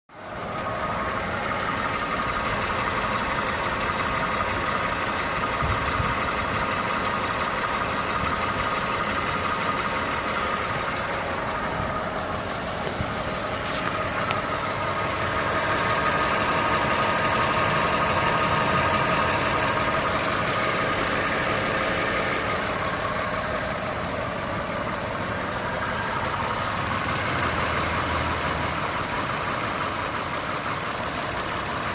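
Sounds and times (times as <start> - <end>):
car engine ticking: 0.2 - 31.9.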